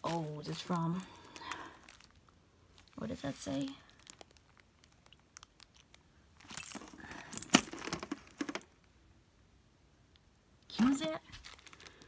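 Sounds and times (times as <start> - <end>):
plastic crinkling: 0.0 - 8.6, 10.8 - 12.0.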